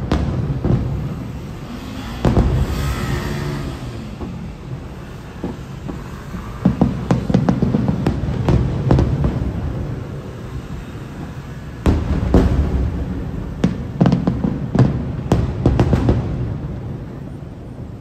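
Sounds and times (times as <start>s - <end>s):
fireworks shells bursting: 0.0s - 14.9s.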